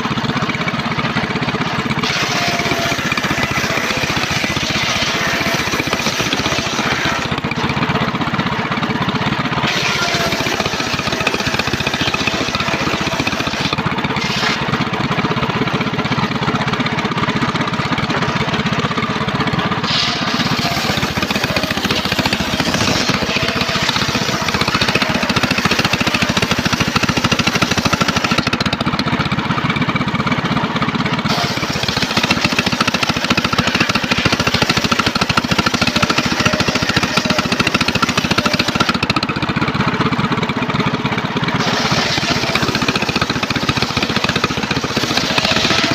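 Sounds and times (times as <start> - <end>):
circular sawmill sawing timber: 0.0 - 45.9.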